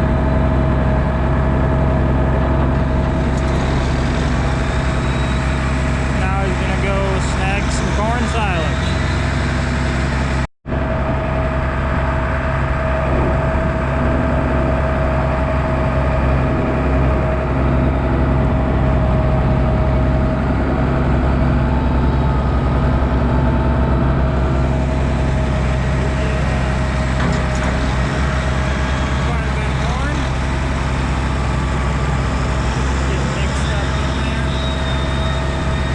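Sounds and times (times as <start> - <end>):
tractor engine running steadily: 0.0 - 35.9.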